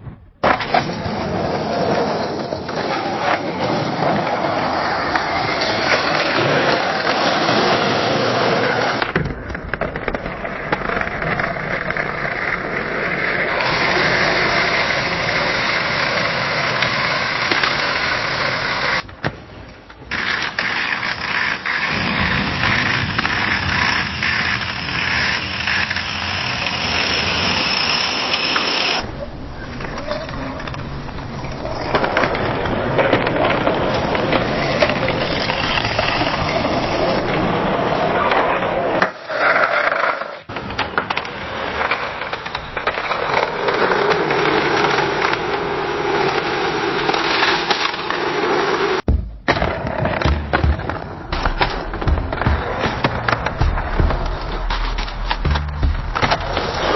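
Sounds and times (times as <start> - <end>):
skateboard wheels rolling on pavement: 0.0 - 56.9.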